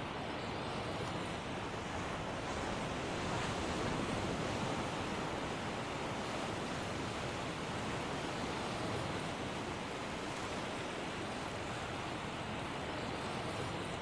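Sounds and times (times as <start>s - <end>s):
sea surf washing onto beach: 0.0s - 14.0s.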